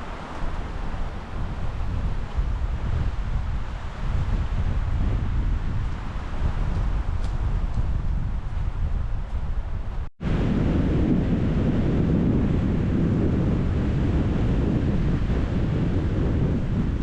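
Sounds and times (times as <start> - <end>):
strong wind roaring through trees: 0.0 - 17.0
wind buffeting microphone: 0.0 - 17.0.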